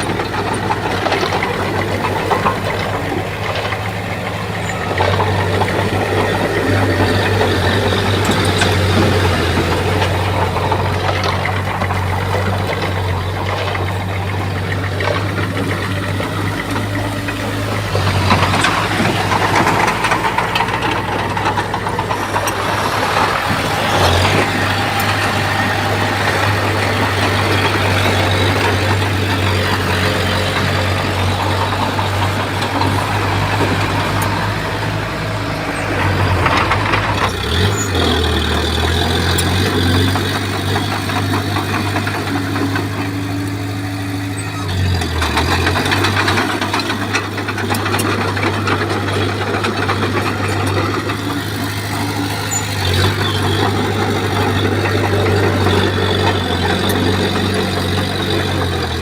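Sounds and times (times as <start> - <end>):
bulldozer diesel engine: 0.0 - 59.0
tracks pushing soil and stone: 0.0 - 59.0.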